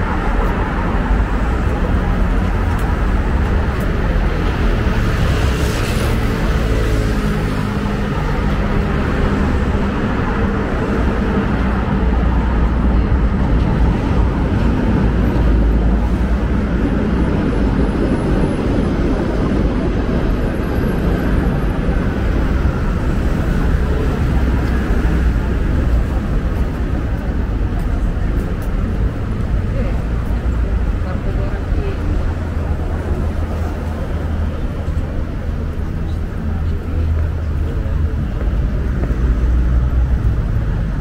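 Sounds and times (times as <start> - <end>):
road traffic rumble: 0.0 - 41.0.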